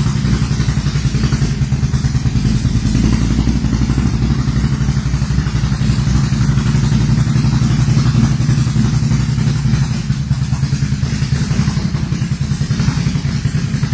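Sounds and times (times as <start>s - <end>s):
atv engine running: 0.0s - 13.9s.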